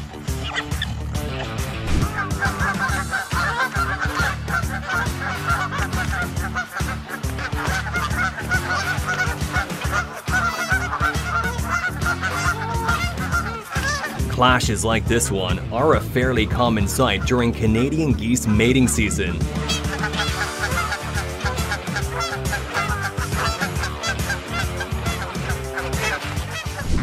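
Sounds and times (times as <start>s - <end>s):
geese honking: 0.4s - 27.0s.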